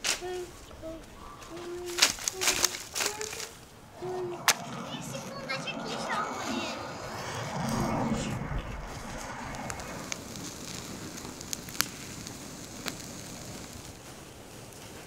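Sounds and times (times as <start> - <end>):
sharp crackling pops: 0.0 - 5.8, 8.8 - 15.0
twigs burning with hiss: 0.0 - 15.0.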